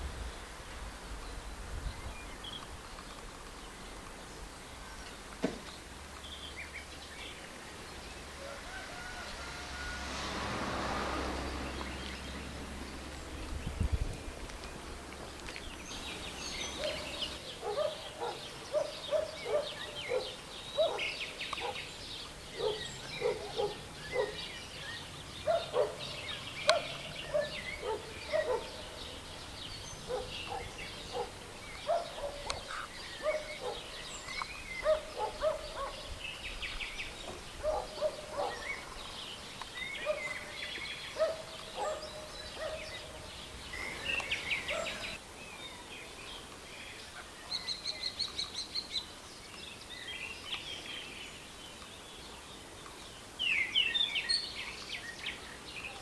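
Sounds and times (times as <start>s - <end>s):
songbird chirps: 0.0s - 56.0s
low repeated bird calls: 10.8s - 56.0s.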